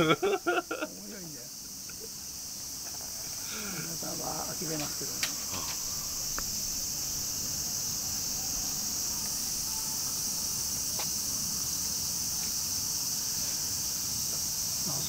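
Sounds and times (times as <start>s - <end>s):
cicadas chirring: 0.0s - 15.0s.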